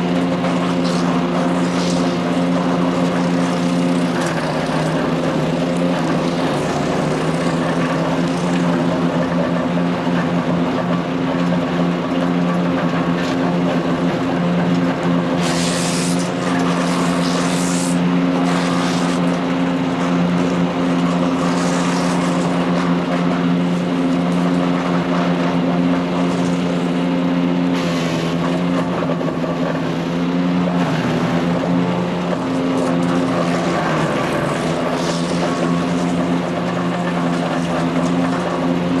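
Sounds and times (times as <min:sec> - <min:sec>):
material going through chipper: 0:00.0 - 0:39.0
wood chipper engine running: 0:00.0 - 0:39.0.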